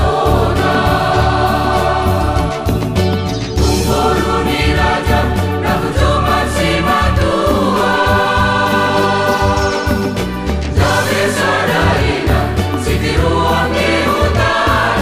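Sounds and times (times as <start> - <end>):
choir singing in harmony: 0.0 - 15.0
steady bass notes: 0.0 - 15.0.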